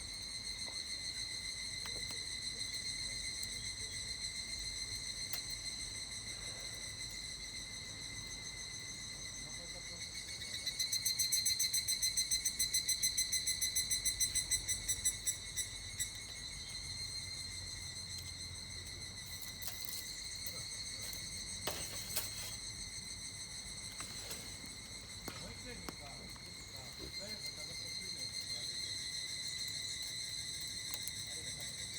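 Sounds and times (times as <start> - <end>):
cicada calling: 0.0 - 31.9
fast pulsed cicada call: 0.0 - 31.9
high insect ringing: 0.0 - 31.9.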